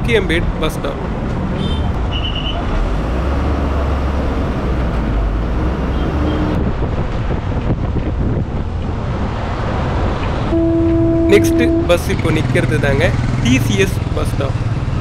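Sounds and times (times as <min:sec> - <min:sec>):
bus engine rumbling under load: 0:00.0 - 0:15.0
road and wind noise: 0:00.0 - 0:15.0.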